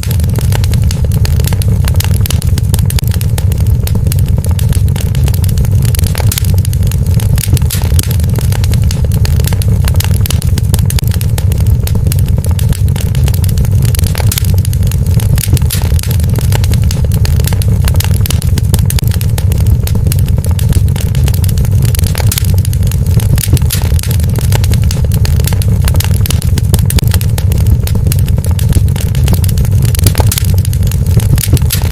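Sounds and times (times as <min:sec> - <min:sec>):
steady low rumble: 0:00.0 - 0:31.9
wood fire crackling and popping: 0:00.0 - 0:31.9.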